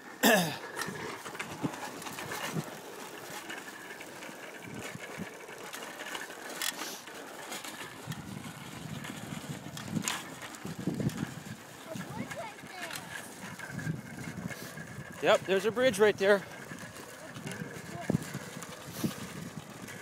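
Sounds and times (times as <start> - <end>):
bicycle tyre and wind noise: 0.0 - 20.0
light clicks and rattles: 0.6 - 20.0.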